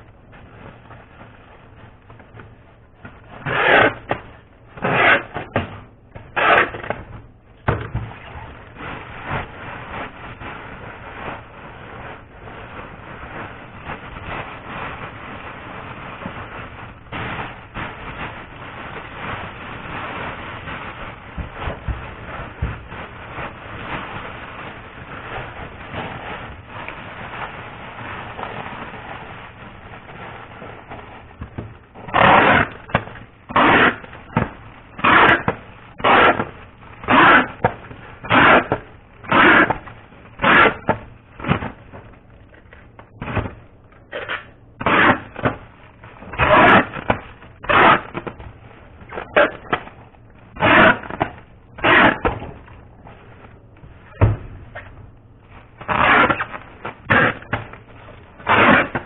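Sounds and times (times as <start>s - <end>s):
foil wrappers crinkling: 0.0s - 59.0s.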